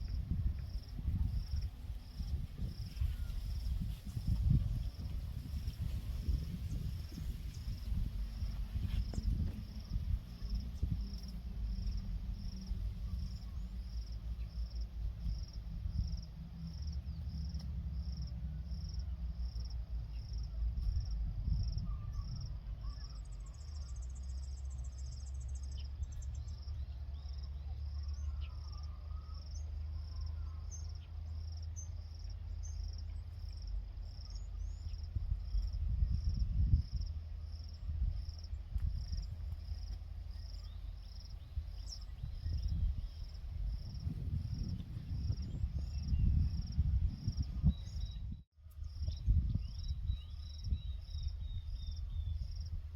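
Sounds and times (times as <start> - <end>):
low rumble: 0.0 - 27.7, 29.8 - 52.9
cricket chirping: 0.0 - 52.9.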